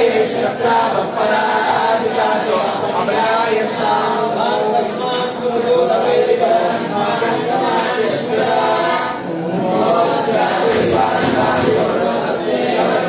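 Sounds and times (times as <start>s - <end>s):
group chanting: 0.0s - 13.0s.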